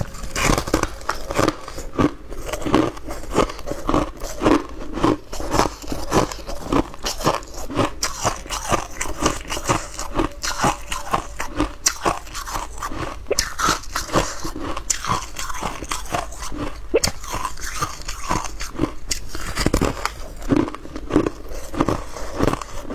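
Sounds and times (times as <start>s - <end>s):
chewing hard ice crunches: 0.0s - 22.9s.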